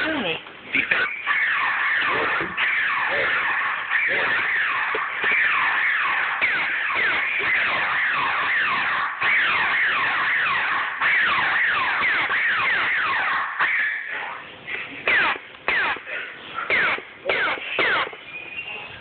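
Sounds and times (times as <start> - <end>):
laser tag gun zaps: 0.7 - 14.4, 15.0 - 18.3.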